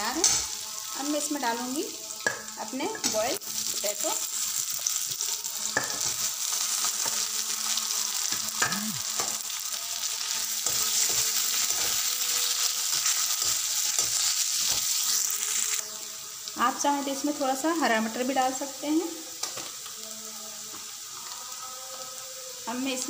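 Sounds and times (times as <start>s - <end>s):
potatoes sizzling in hot fat: 0.0s - 23.0s.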